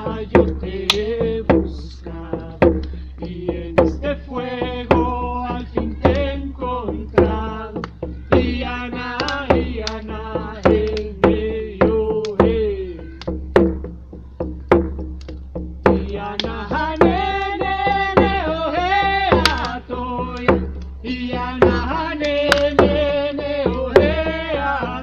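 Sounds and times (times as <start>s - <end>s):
chanted singing: 0.0s - 14.6s, 15.9s - 25.0s
steady drum beat: 0.0s - 25.0s.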